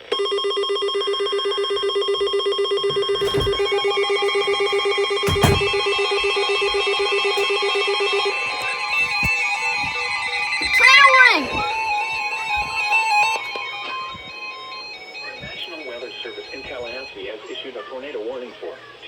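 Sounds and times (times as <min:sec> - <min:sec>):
electronic alert tone trilling: 0:00.4 - 0:17.1.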